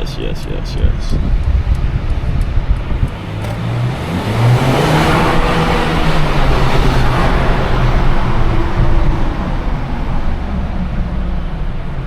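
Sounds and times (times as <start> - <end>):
car engine accelerating: 0.0 - 12.0
rushing noise: 0.0 - 12.0.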